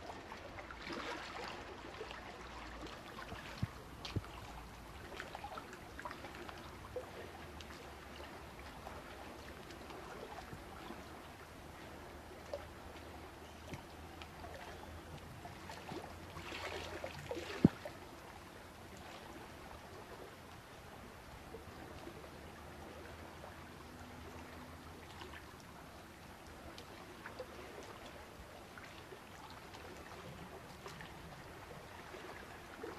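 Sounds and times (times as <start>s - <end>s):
water trickling and gurgling: 0.0s - 32.9s.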